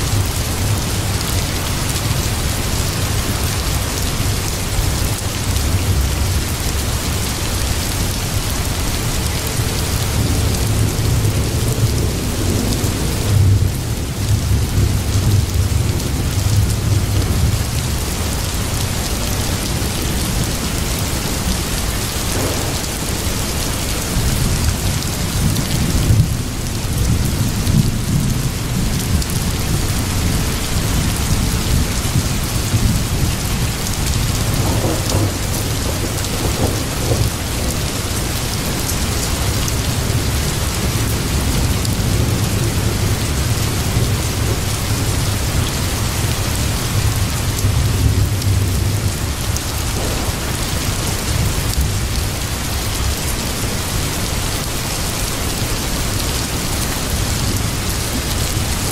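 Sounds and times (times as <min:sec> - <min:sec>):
steady rain: 0:00.0 - 0:58.9
low rumble of thunder: 0:00.1 - 0:54.7.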